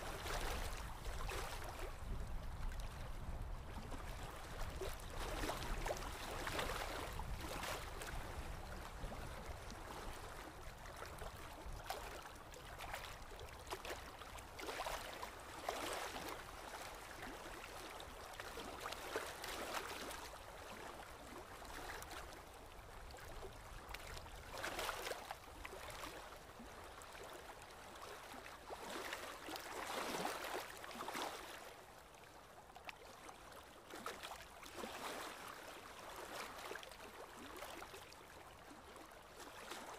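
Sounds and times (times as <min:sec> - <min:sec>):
river water splashing: 0:00.0 - 0:39.9.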